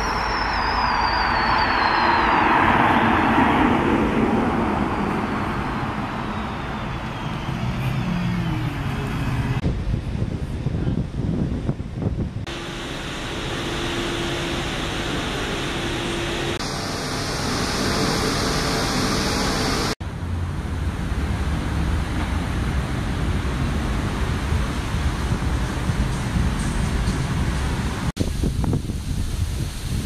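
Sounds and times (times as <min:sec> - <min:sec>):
low engine drone: 0:00.0 - 0:11.1, 0:11.7 - 0:28.1
bus engine and tyres: 0:00.0 - 0:30.0.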